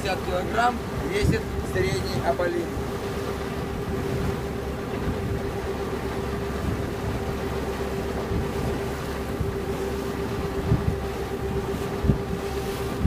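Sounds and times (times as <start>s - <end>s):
wind on microphone: 0.0s - 7.4s, 8.1s - 13.0s
boat engine droning: 0.0s - 13.0s.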